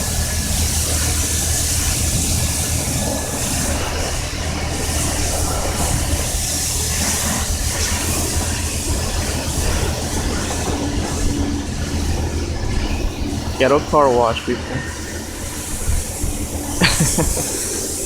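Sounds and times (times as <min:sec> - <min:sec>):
high-pressure water spray hissing: 0:00.0 - 0:18.0.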